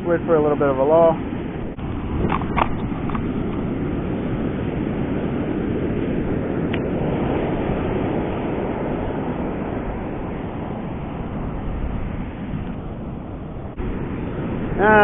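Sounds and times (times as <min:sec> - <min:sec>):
ocean surf: 0:00.0 - 0:15.0
wind on microphone: 0:00.0 - 0:15.0.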